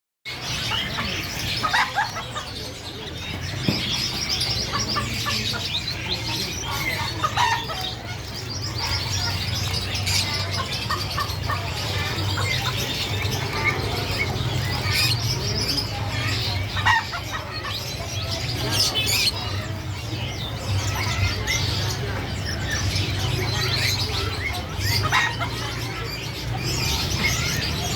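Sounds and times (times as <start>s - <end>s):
finches chirping and twittering: 0.3s - 27.9s.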